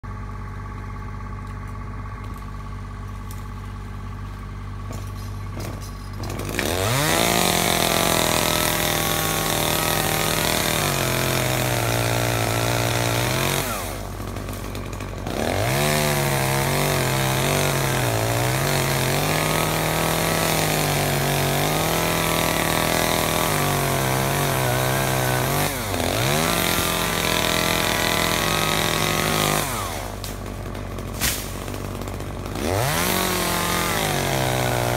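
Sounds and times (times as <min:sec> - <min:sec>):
chainsaw cutting branches: 0:05.6 - 0:34.9
chainsaw idling and revving: 0:05.6 - 0:34.9.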